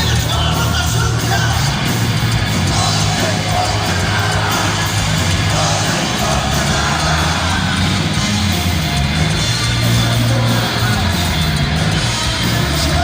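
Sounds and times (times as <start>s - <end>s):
heavy metal band playing: 0.0s - 13.0s
voices shouting along: 0.0s - 13.0s.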